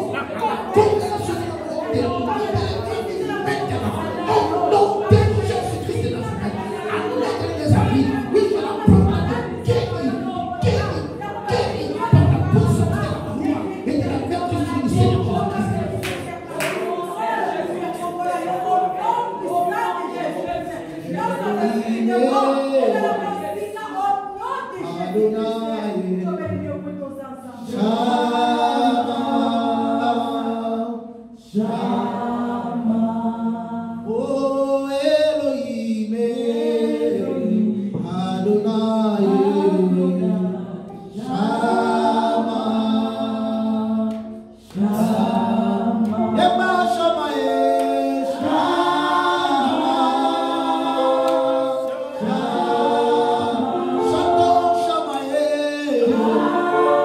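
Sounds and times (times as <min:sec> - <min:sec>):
group singing a cappella: 0:00.0 - 0:57.0.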